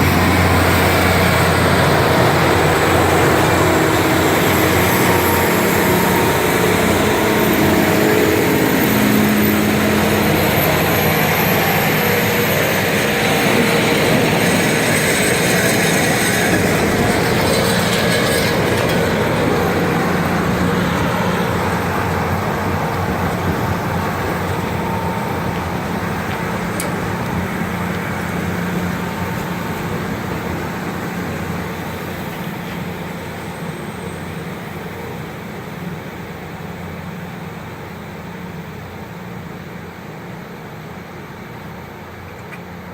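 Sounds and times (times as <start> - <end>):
rail grinder train rumbling: 0.0 - 42.9.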